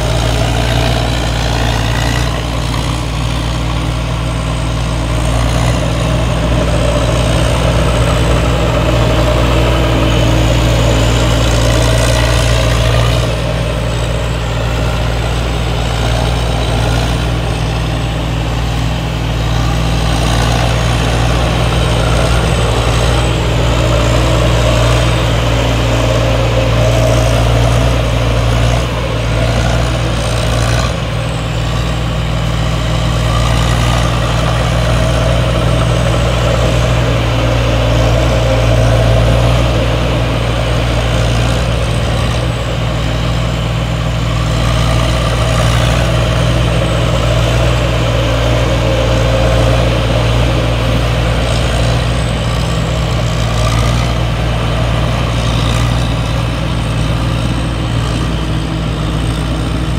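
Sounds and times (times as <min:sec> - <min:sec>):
combine harvester engine droning: 0:00.0 - 0:59.9.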